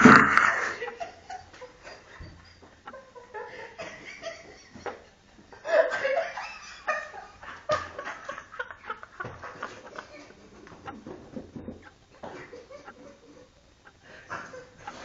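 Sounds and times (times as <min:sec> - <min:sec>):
people laughing: 0:00.3 - 0:15.0.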